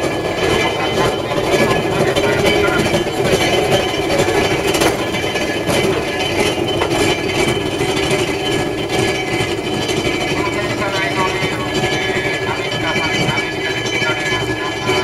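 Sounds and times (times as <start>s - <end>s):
turntable mechanical rumble: 0.0s - 15.0s.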